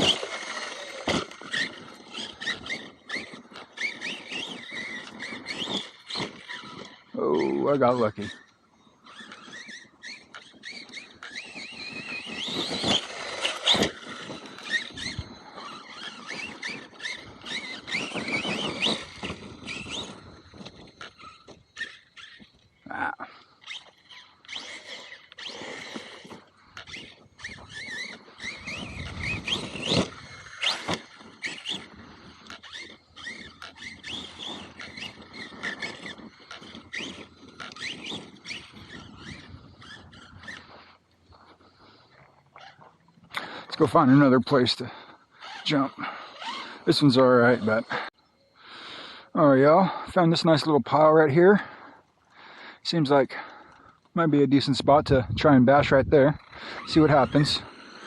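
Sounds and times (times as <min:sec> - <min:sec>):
rc truck motor whining: 0:00.0 - 0:58.0.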